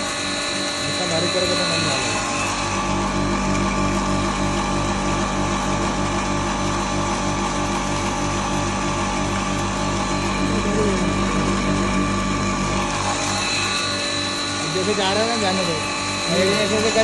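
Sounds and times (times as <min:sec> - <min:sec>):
grinding machine motor hum: 0:00.0 - 0:17.0.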